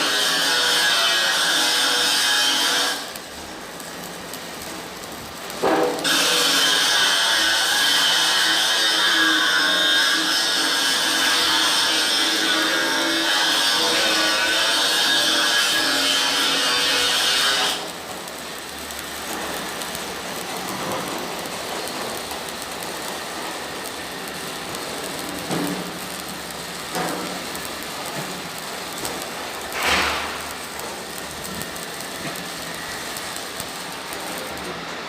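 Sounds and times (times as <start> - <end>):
welding arc crackling: 0.0 - 35.0.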